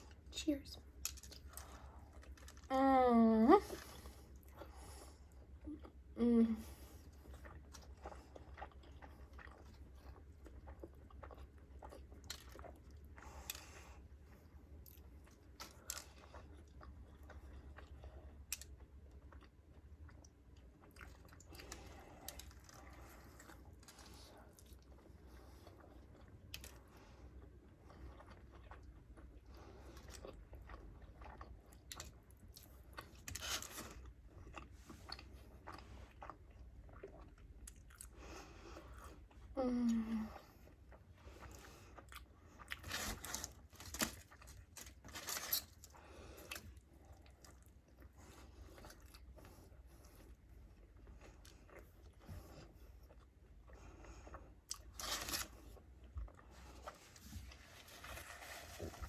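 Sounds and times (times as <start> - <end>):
person chewing food: 0.0 - 2.7, 3.6 - 59.0
low steady hum: 0.0 - 59.0.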